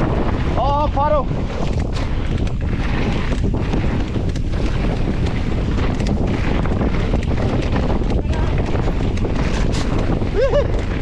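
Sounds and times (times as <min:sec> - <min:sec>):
wind buffeting microphone: 0:00.0 - 0:11.0
bike knocks and clicks: 0:01.6 - 0:11.0.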